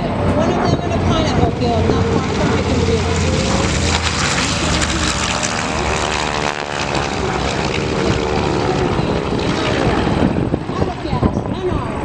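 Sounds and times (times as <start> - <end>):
propeller plane passing low: 0.0 - 12.0.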